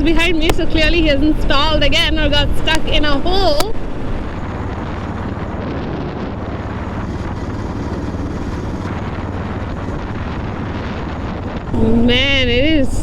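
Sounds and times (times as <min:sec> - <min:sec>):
motorcycle engine drone: 0:00.0 - 0:13.0
wind rush over microphone: 0:00.0 - 0:13.0.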